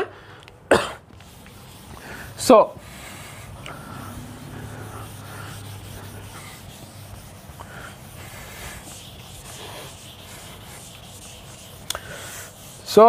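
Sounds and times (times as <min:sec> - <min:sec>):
eraser rubbing on whiteboard: 0:01.0 - 0:13.0.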